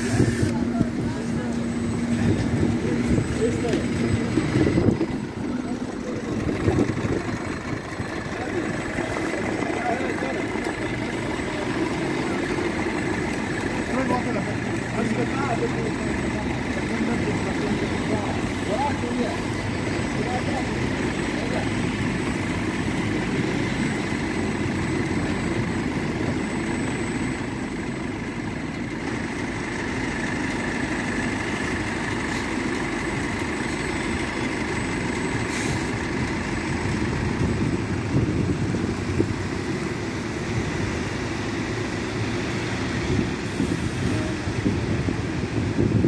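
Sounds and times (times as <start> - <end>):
bus engine rumble: 0.0 - 46.0.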